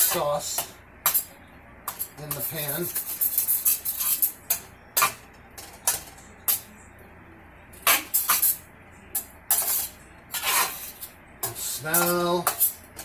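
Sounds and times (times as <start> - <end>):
spoon scraping a skillet: 0.0 - 6.7, 7.8 - 8.6, 9.2 - 13.0.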